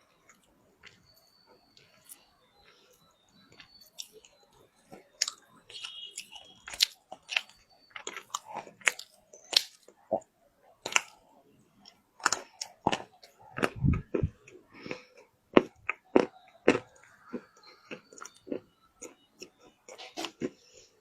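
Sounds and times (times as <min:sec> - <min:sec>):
clay being chewed crunching: 0:00.2 - 0:11.2, 0:11.8 - 0:20.9.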